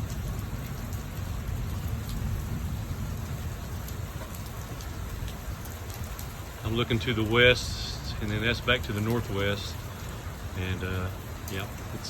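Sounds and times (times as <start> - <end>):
rain and wind rushing: 0.0 - 12.0.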